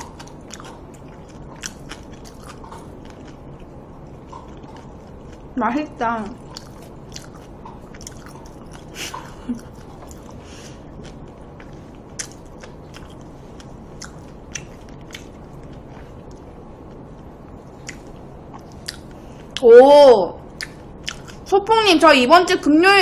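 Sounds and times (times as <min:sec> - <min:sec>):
person chewing food: 0:00.0 - 0:05.6, 0:06.4 - 0:19.6, 0:20.4 - 0:21.5
steady low hum: 0:00.0 - 0:23.0.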